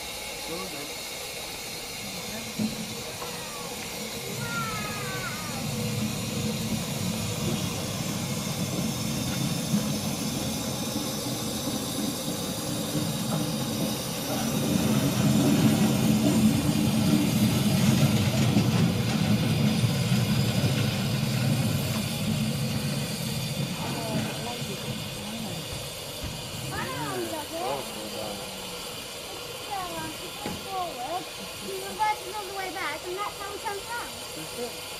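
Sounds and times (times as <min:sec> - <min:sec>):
steam hissing: 0:00.0 - 0:34.9.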